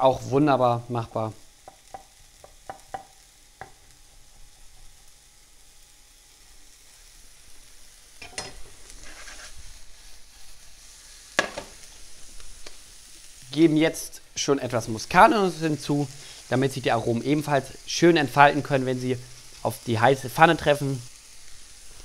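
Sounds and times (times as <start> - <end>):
onions sizzling in a pan: 0.0 - 22.0.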